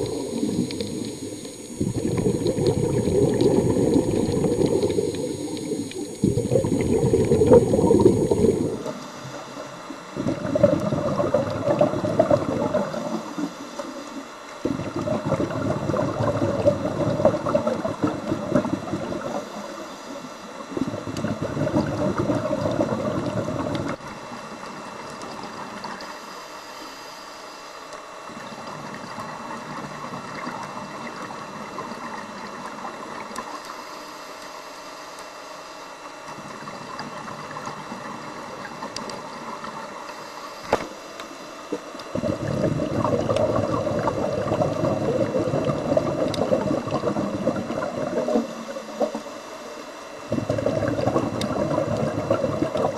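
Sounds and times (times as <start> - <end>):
diver's exhaled bubbles underwater: 0.0 - 26.2, 28.0 - 33.6, 35.9 - 52.9
faint underwater hiss: 0.0 - 52.9.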